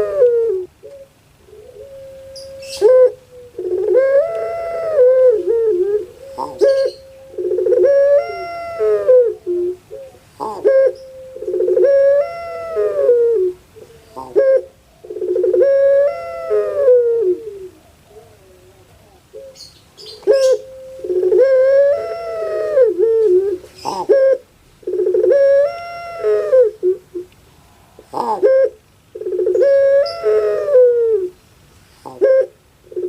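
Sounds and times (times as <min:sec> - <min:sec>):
dove cooing: 0:00.0 - 0:27.4, 0:28.0 - 0:31.4, 0:32.0 - 0:33.0.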